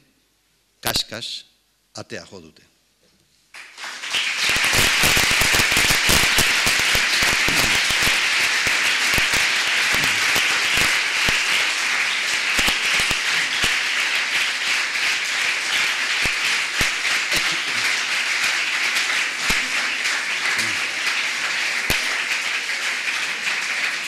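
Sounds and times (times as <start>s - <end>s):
audience applauding: 3.5s - 24.0s.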